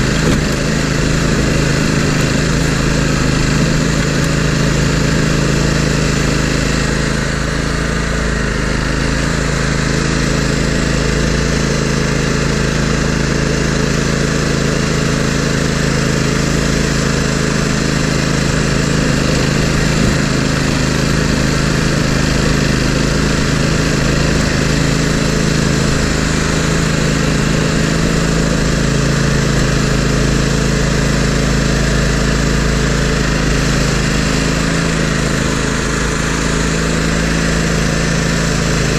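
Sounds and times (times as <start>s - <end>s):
engine running steadily: 0.0s - 38.9s
plow blade pushing snow: 0.0s - 38.9s.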